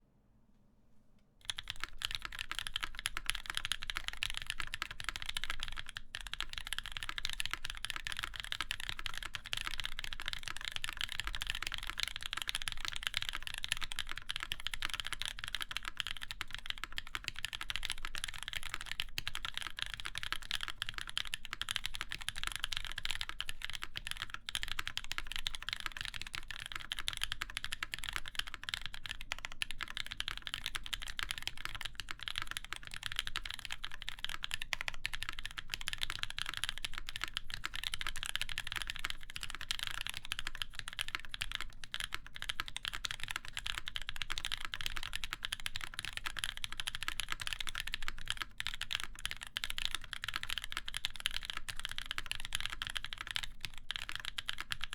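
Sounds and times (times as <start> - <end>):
typing on mechanical keyboard: 1.4 - 54.9.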